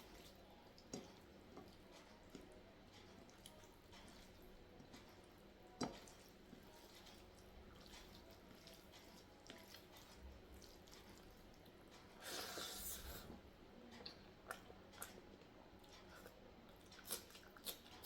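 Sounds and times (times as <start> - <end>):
wet chewing and mixing food: 0.0 - 18.0.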